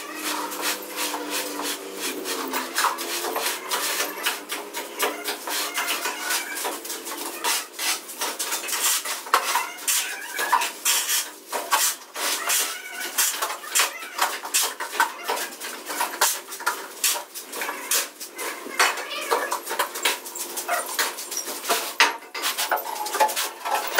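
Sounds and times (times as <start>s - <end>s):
hard objects clinking and clattering: 0.0s - 23.9s.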